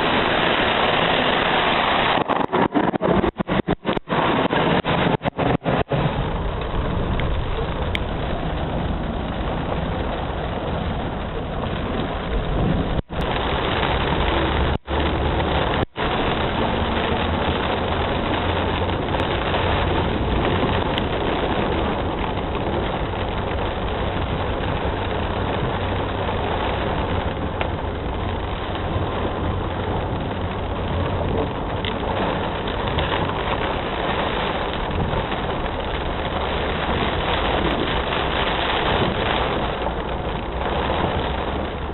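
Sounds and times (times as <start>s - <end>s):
low rumble: 0.0s - 41.9s.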